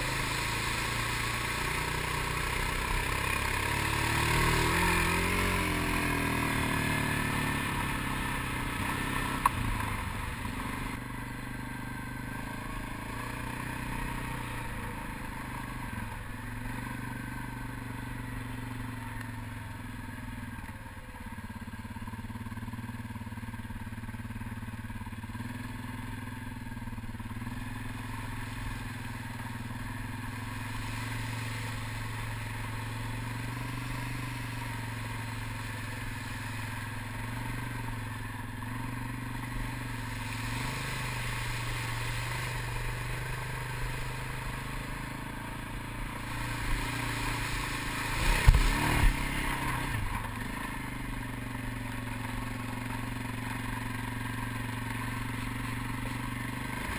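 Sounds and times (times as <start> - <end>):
quad bike engine running: 0.0 - 56.9.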